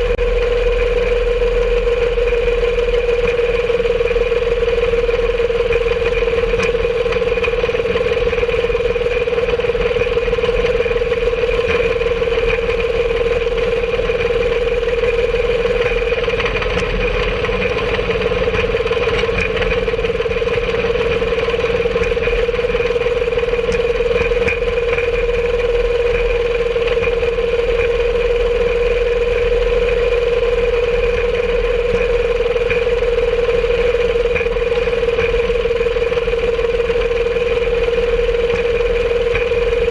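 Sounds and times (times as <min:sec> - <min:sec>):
rail cart engine running: 0:00.0 - 0:39.9.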